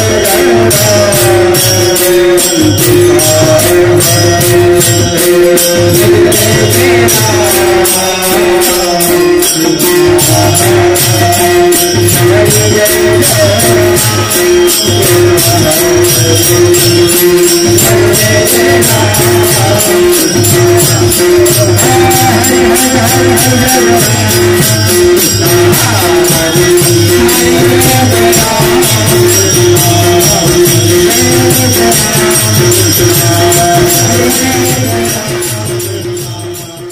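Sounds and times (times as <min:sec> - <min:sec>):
held drone note: 0:00.0 - 0:36.9
jingling hand cymbals: 0:00.0 - 0:36.9.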